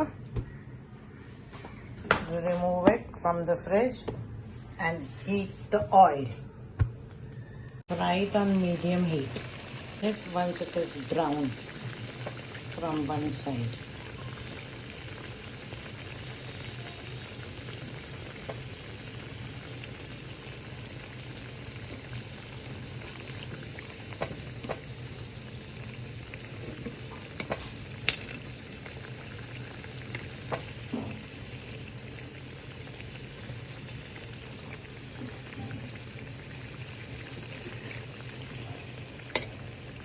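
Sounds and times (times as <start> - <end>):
oil sizzling while frying: 7.8 - 40.0.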